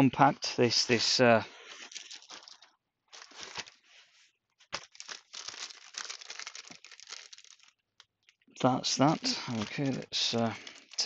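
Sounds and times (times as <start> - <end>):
plastic bag crinkling: 1.7 - 11.0.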